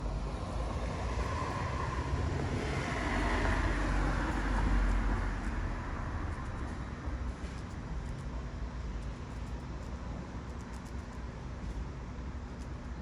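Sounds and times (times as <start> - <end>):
continuous rumble and hiss: 0.0 - 13.0.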